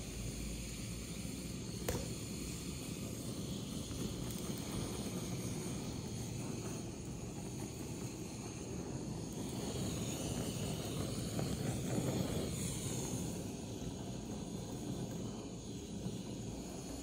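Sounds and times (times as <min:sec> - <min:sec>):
blow torch hissing: 0:00.0 - 0:17.0.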